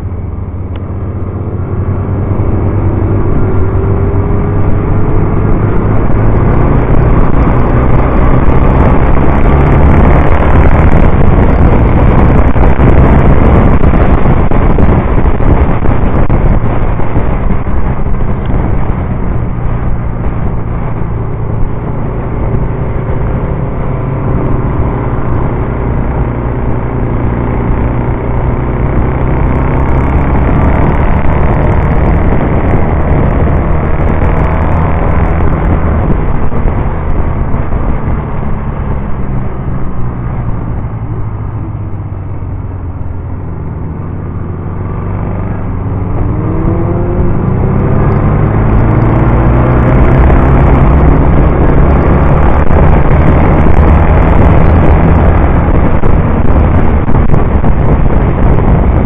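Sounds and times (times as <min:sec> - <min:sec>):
motorcycle engine running hard: 0:00.0 - 0:59.0.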